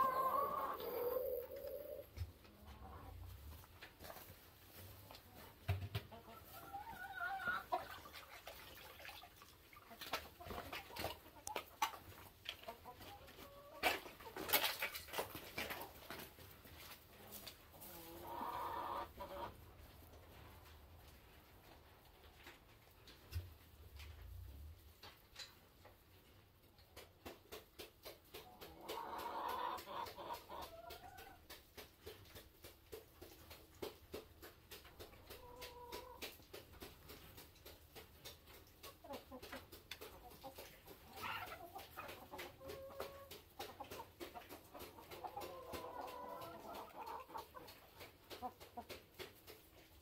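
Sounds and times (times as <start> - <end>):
chickens clucking: 0.0 - 24.3, 25.0 - 50.0.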